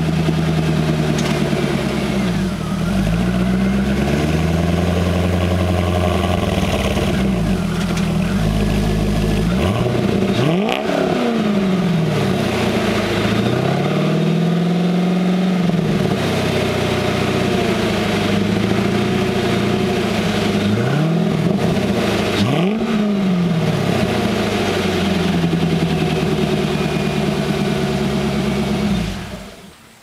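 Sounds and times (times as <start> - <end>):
car engine idling and revving: 0.0 - 29.8.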